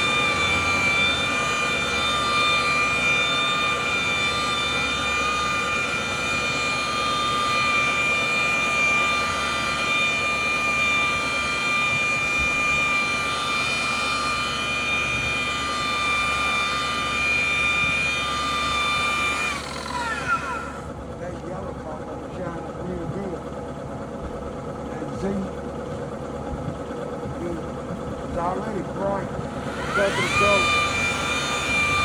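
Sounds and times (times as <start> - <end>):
electric buffer whining: 0.0 - 32.0.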